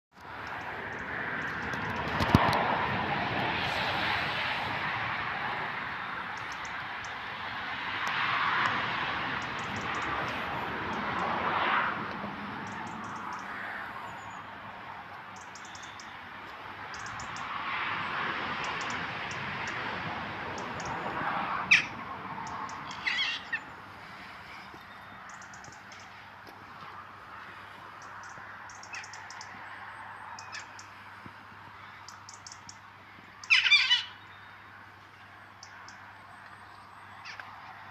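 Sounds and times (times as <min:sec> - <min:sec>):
passing vehicles rushing: 0:00.2 - 0:37.9.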